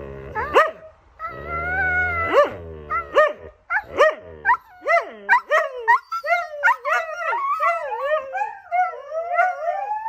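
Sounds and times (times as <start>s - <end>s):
dog whining yelps: 0.4s - 10.0s.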